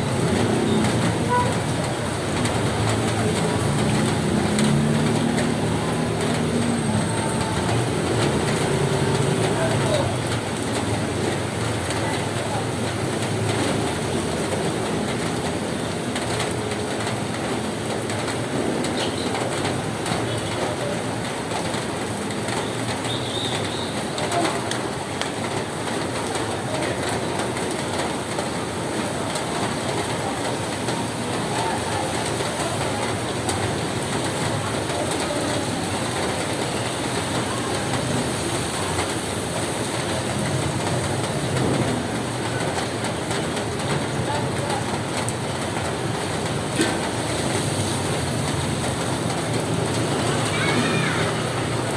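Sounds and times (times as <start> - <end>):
rain on a roof: 0.0 - 51.9.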